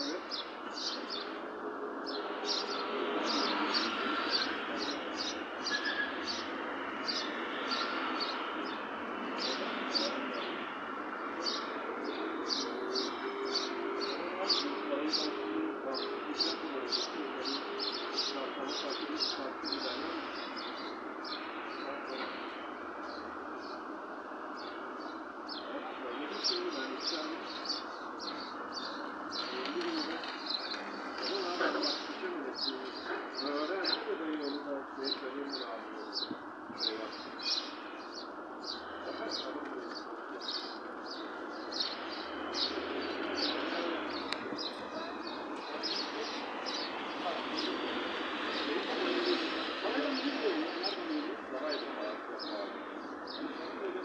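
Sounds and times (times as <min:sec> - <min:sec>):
background murmur: 0:00.0 - 0:54.0
small birds chirping: 0:00.0 - 0:54.0.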